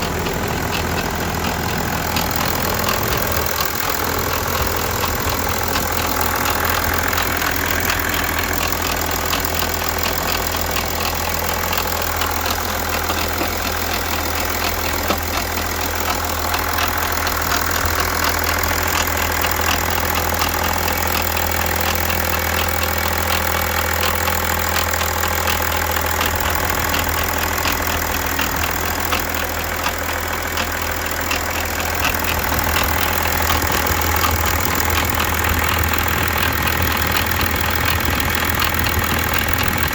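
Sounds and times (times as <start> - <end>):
diesel engine idling with ticking: 0.0 - 39.9.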